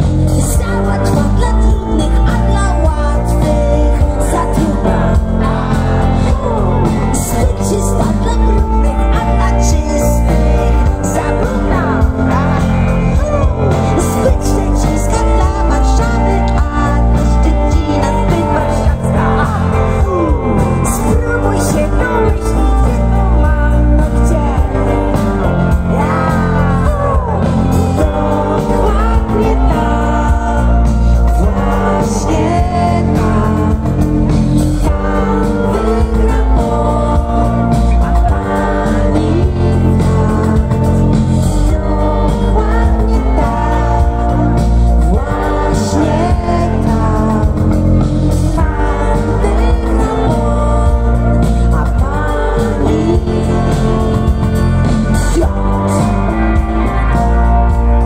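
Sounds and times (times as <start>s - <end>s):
live rock band: 0.0s - 58.0s
woman singing lead vocal: 0.0s - 58.0s.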